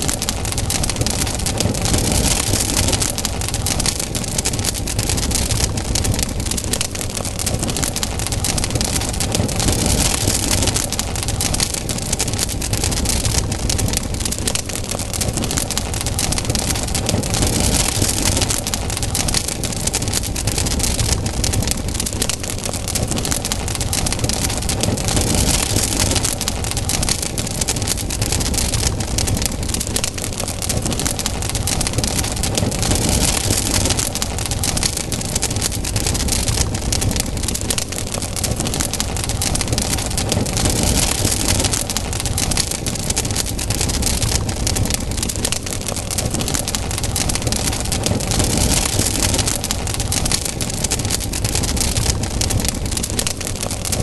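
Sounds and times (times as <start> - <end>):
campfire crackling: 0.0 - 54.0
fire hiss: 0.0 - 54.0.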